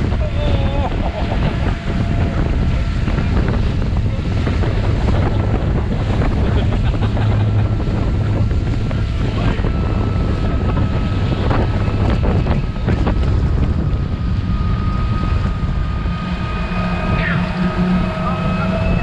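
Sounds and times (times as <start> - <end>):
motorboat running: 0.0 - 19.0
wind buffeting microphone: 0.0 - 19.0.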